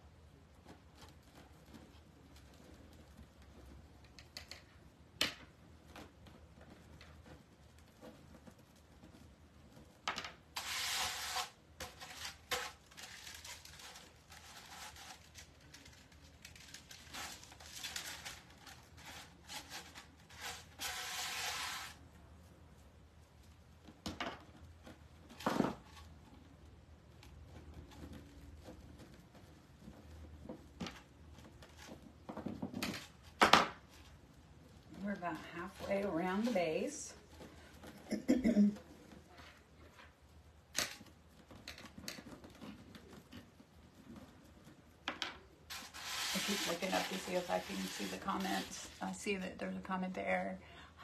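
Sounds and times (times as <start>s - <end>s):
plastic mesh ribbon rustling: 0.2s - 38.2s, 38.8s - 49.9s.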